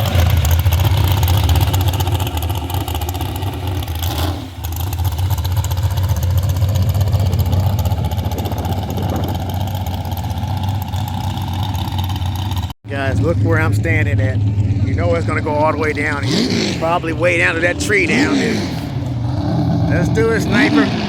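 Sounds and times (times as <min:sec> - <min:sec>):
tractor engine rumbling: 0:00.0 - 0:21.0.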